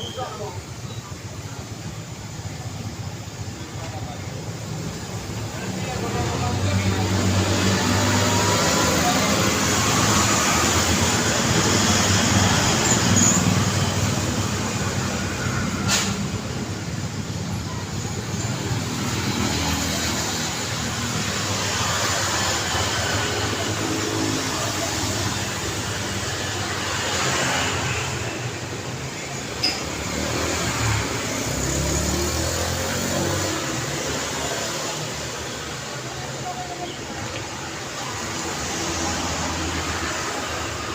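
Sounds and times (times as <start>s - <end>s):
cars and motorbikes passing: 0.0s - 40.9s
steady traffic hum: 0.0s - 40.9s.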